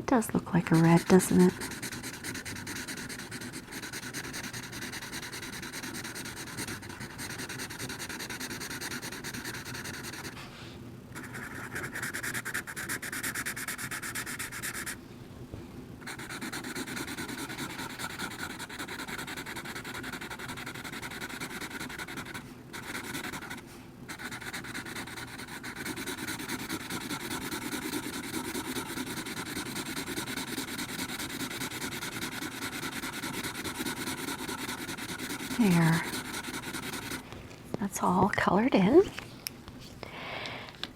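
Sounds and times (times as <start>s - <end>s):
marker scribbling on paper: 0.5s - 10.3s, 11.2s - 15.0s, 16.0s - 37.2s.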